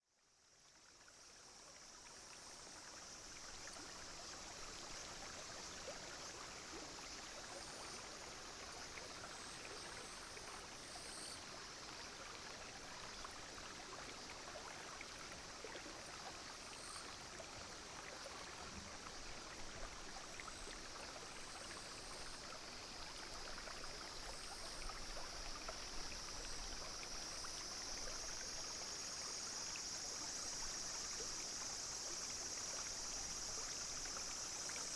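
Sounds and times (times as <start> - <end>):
insects droning: 0.1 - 34.9
stream trickling over stones: 0.1 - 34.9.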